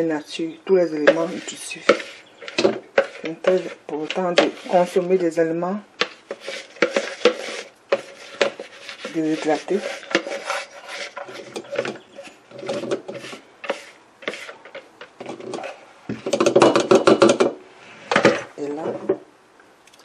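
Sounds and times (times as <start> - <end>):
spoon scraping plastic bowl: 0.9 - 17.4.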